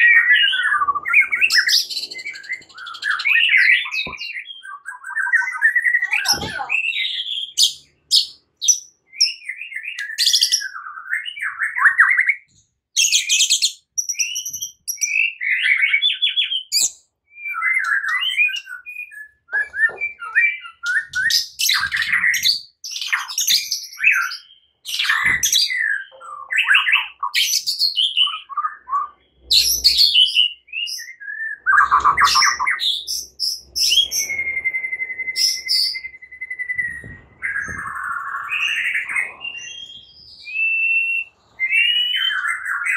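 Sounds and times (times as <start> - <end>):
bird singing whistles and trills: 0.0 - 42.9.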